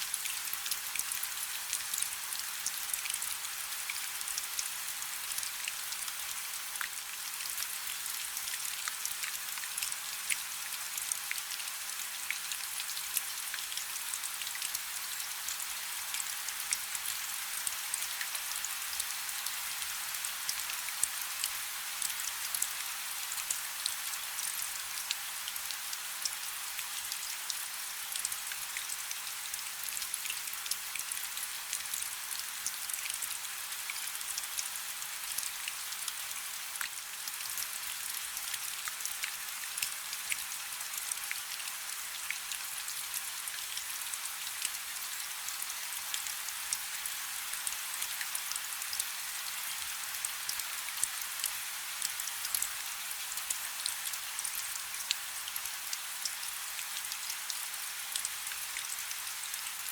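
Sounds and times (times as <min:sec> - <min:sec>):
rain falling on a river: 0:00.0 - 0:59.9.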